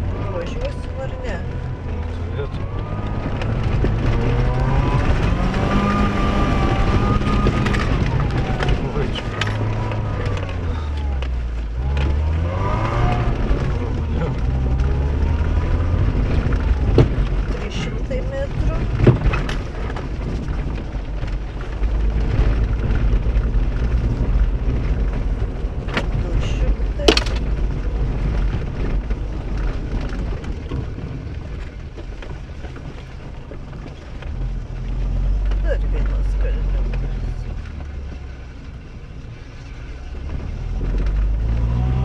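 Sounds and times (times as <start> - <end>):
rally car engine running: 0.0 - 42.0
small rattles: 0.1 - 42.0.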